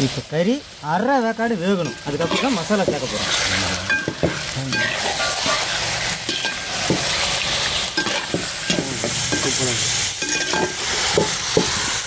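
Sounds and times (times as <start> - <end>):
chicken sizzling in oil: 0.0 - 12.0
spoon scraping a pan: 1.8 - 12.0.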